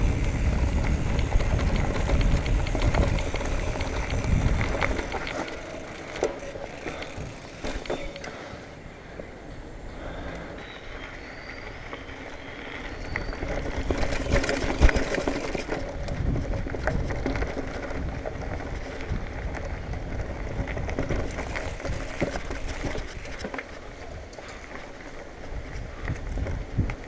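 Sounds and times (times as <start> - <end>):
bike rattling and clicking: 0.0 - 8.6, 11.0 - 27.0
bike tyres rolling on dirt: 0.0 - 9.4, 10.0 - 27.0.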